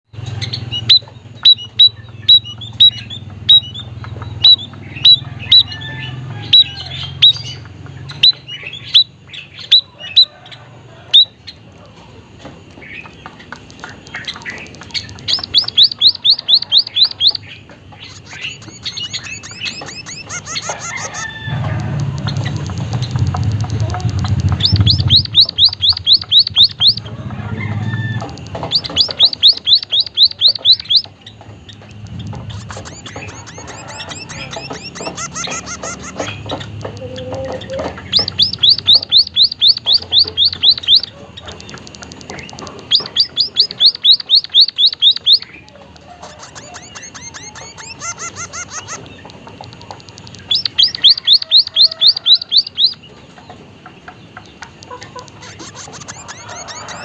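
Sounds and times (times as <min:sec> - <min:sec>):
bird chirping and trilling: 0:00.1 - 0:11.7, 0:12.6 - 0:57.0.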